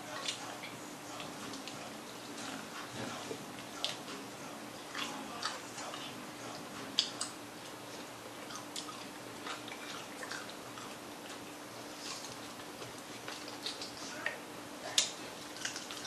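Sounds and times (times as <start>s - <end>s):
chewing crispy chicken: 0.0s - 16.0s.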